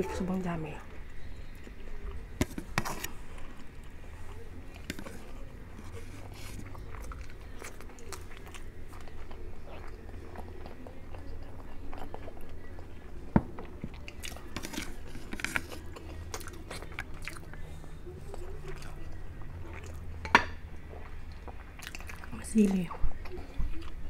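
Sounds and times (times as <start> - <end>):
wet chewing and crunching: 1.3 - 24.0.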